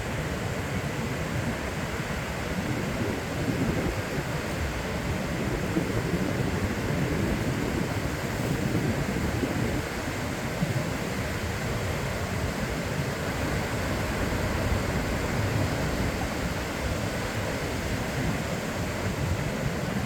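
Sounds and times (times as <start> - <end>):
sea waves washing on beach: 0.0 - 20.0.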